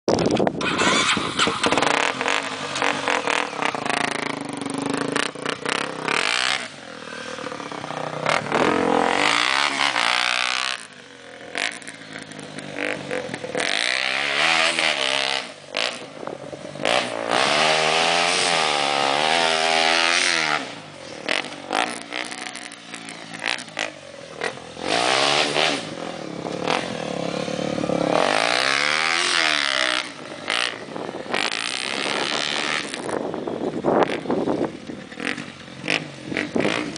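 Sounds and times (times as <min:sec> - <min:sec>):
motorcycle engine revving: 0:00.1 - 0:36.9.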